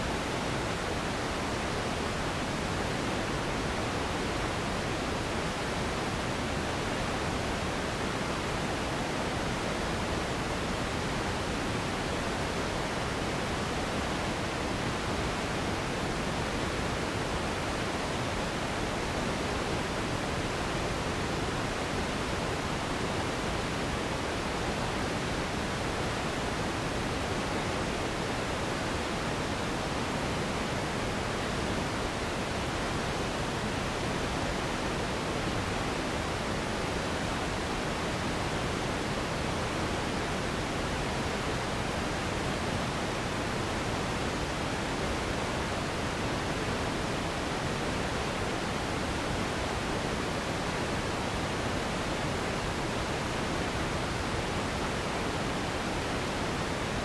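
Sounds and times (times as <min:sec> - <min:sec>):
steady noise hiss: 0:00.0 - 0:57.0.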